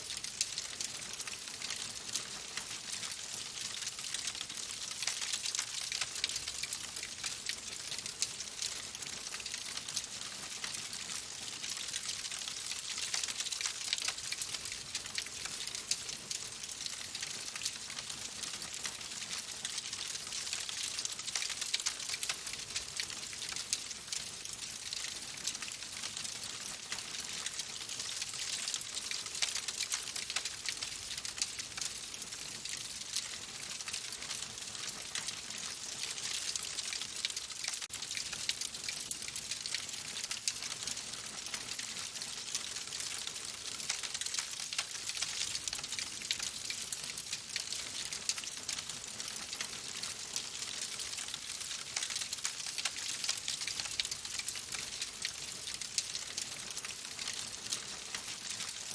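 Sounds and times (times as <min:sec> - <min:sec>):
wood fire crackling: 0:03.0 - 0:15.9, 0:19.2 - 0:25.9, 0:26.5 - 0:48.5, 0:49.3 - 0:57.3.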